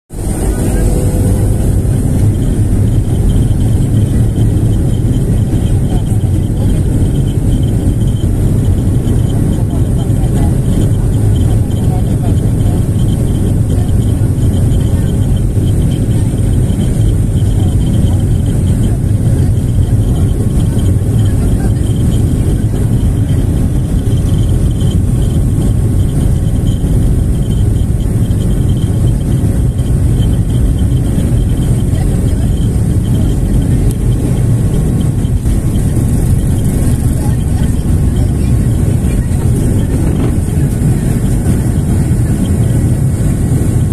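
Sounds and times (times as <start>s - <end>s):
jet engines rumbling: 0.0s - 43.9s
plane rolling on ground: 0.1s - 43.9s
thin high whine: 0.1s - 43.9s.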